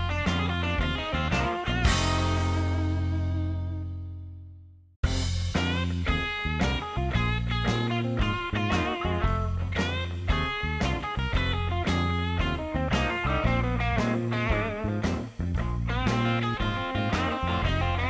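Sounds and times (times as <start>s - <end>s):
rock music with electric guitar: 0.0s - 3.9s, 5.0s - 18.0s.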